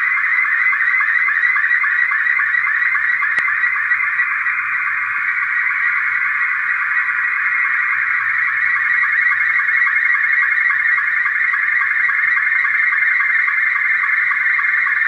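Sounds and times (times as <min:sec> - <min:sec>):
warbling image signal tones: 0:00.0 - 0:15.0.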